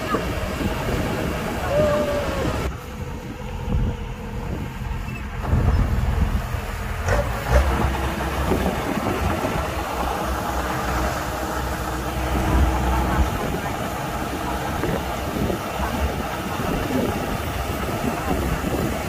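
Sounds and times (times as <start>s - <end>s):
combine harvester rumbling: 0.0s - 19.0s.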